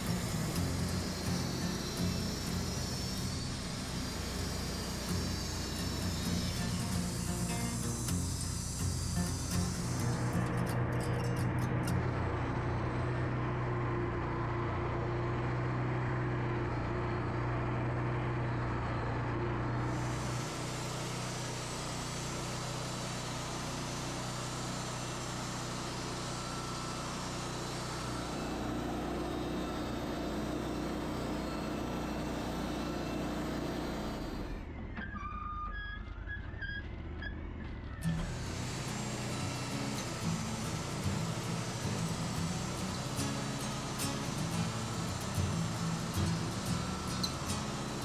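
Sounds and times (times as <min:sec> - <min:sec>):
band sawmill cutting log: 0:00.0 - 0:13.1, 0:19.1 - 0:34.8, 0:38.0 - 0:48.0
sawmill engine humming: 0:00.0 - 0:35.0, 0:37.0 - 0:48.0.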